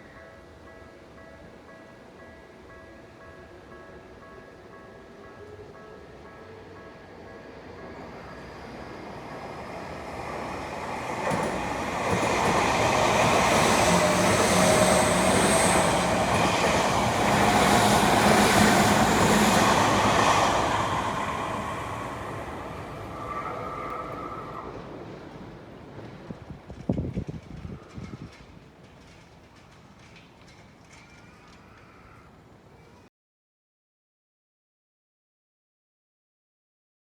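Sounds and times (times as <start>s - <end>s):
electric train passing: 0.1s - 33.0s.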